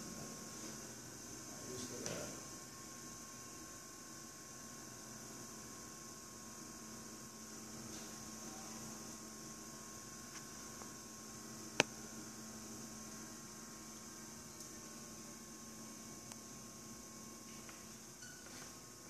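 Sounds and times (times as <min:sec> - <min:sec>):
pottery wheel humming: 0:00.0 - 0:19.0.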